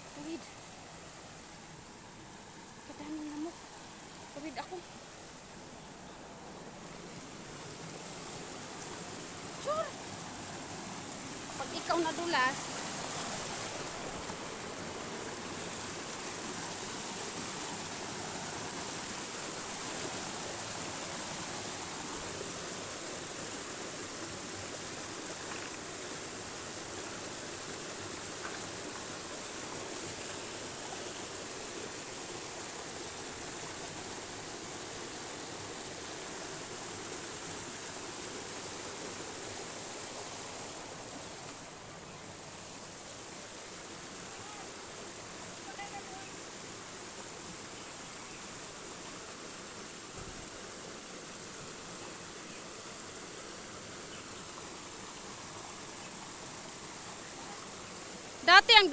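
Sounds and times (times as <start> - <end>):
stream rushing over boulders: 0.0 - 58.9.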